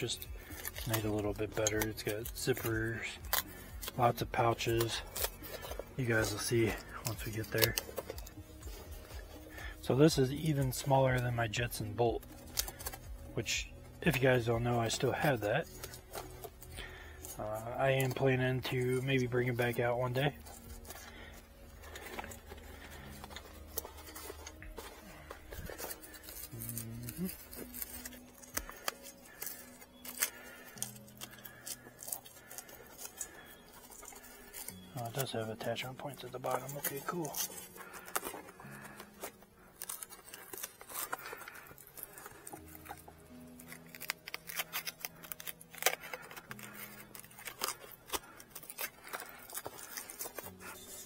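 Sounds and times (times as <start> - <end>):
bag straps clicking and rustling: 0.0 - 51.0
quiet background music: 0.0 - 51.0.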